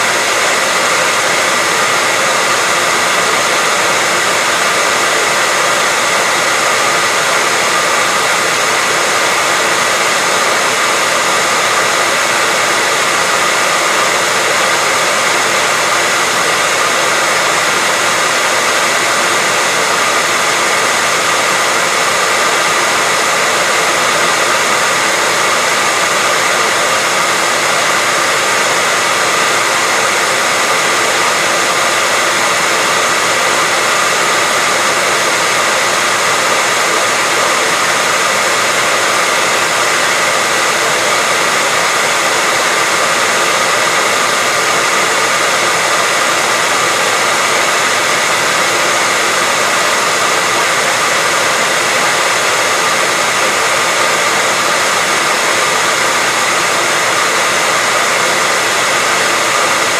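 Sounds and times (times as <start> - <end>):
hair dryer blowing air: 0.0 - 59.9.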